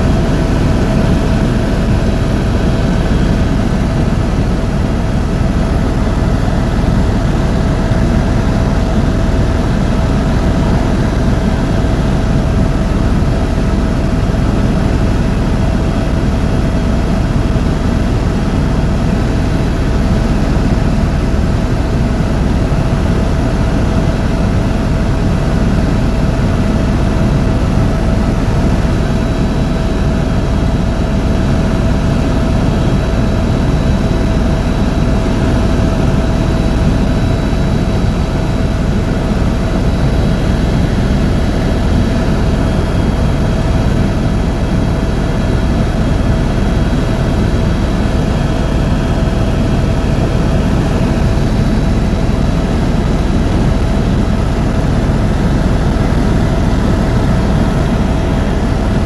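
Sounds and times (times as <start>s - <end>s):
helicopter engine and rotor noise: 0.0s - 59.0s.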